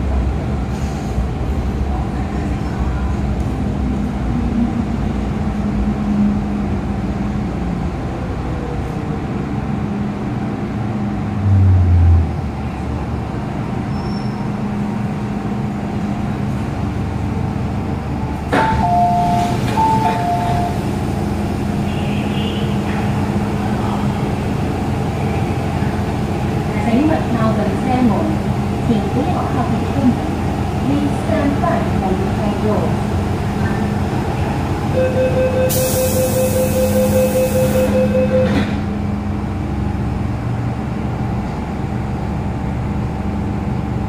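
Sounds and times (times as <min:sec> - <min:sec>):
train running inside carriage: 0:00.0 - 0:44.0.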